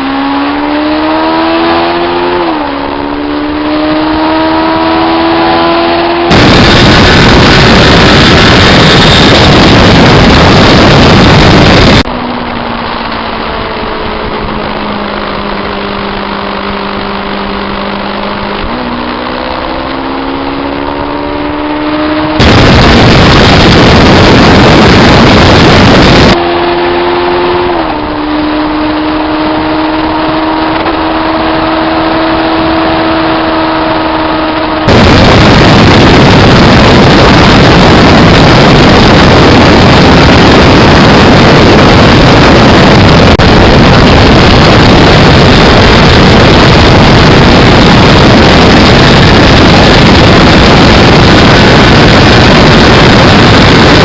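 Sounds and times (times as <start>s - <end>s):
motorcycle engine roaring and idling: 2.3s - 54.0s.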